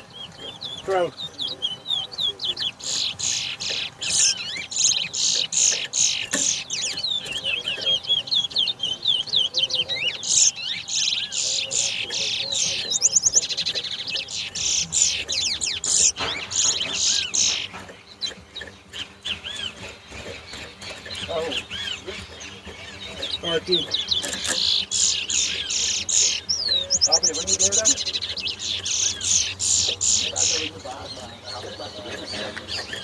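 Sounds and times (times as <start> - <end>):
finches chirping and trilling: 0.0 - 33.0.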